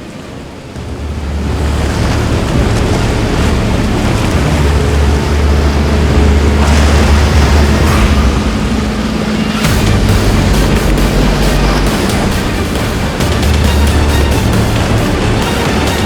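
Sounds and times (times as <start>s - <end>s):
boat engines droning: 0.0s - 16.0s
water wash: 0.0s - 16.0s
wind buffeting microphone: 0.0s - 16.0s.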